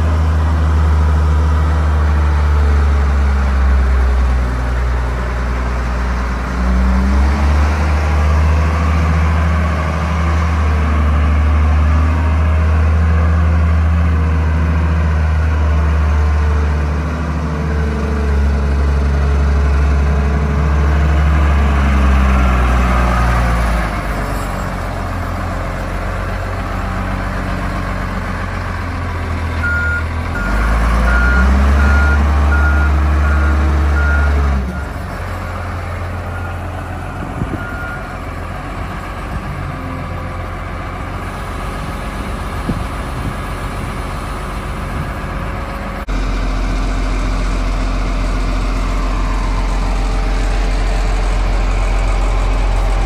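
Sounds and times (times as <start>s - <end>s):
diesel loader engine revving: 0.0s - 53.0s.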